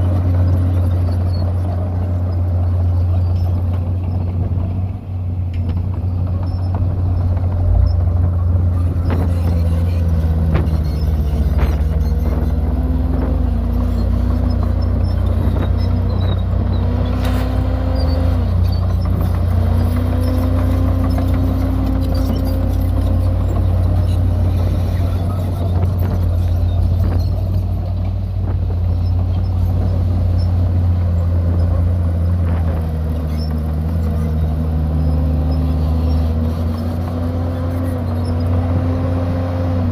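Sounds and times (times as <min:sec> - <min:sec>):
heavy diesel machinery running: 0:00.0 - 0:39.9
faint clicks and squeaks: 0:00.1 - 0:38.6.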